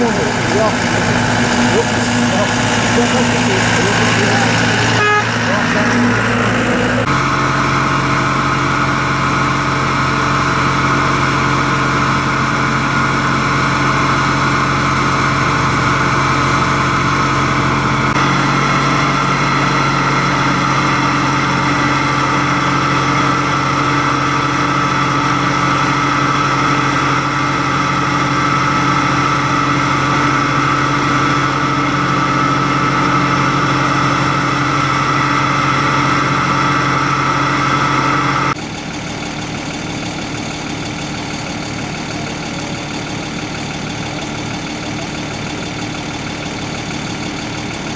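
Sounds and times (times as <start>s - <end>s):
fire engine motor running: 0.0s - 47.9s.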